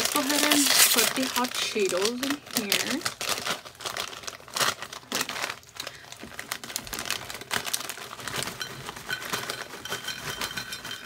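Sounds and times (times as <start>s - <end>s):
chip bag crinkling: 0.0s - 11.0s.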